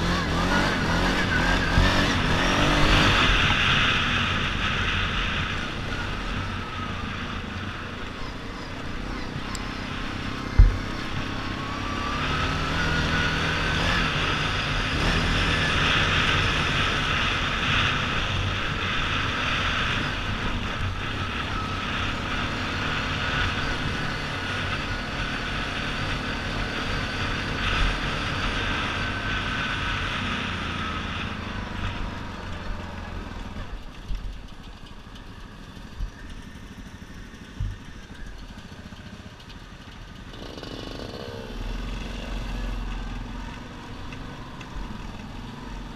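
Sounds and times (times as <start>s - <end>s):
engine whining under load: 0.0s - 45.9s.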